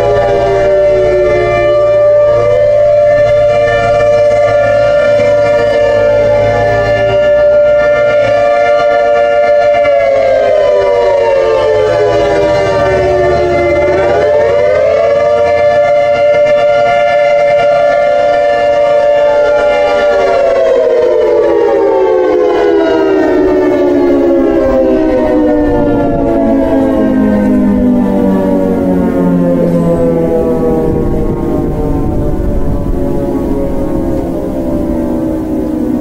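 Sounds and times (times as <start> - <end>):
civil defense warning siren: 0.0 - 36.0.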